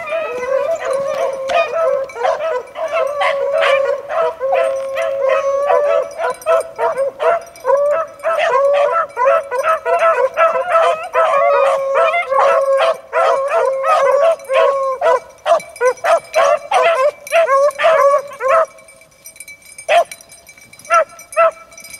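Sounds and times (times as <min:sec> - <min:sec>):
hounds baying: 0:00.0 - 0:21.9.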